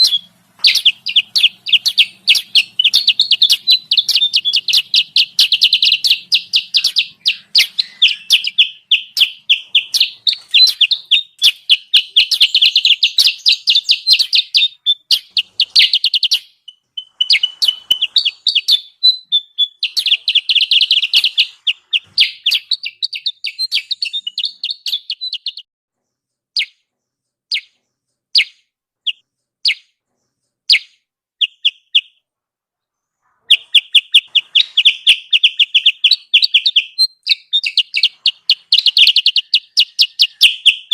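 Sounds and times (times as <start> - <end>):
bird chirping trills: 0.0 - 40.9.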